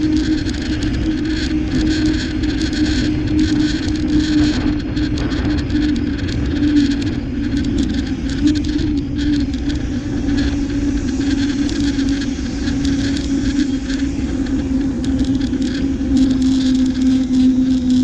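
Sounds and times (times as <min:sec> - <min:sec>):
bike riding hum and rumble: 0:00.0 - 0:18.0
fast faint ticks: 0:00.0 - 0:18.0
wind rush: 0:00.0 - 0:18.0.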